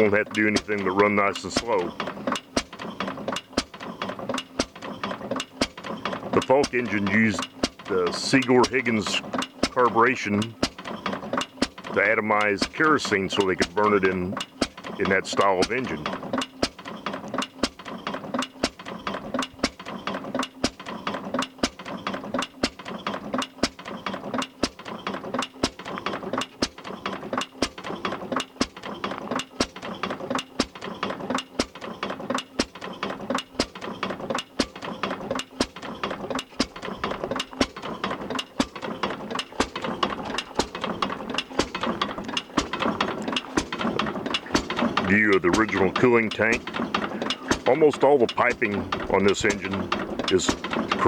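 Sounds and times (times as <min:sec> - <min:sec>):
gas engine running slowly: 0:00.0 - 0:51.0
valve gear clicking and clattering: 0:00.0 - 0:51.0.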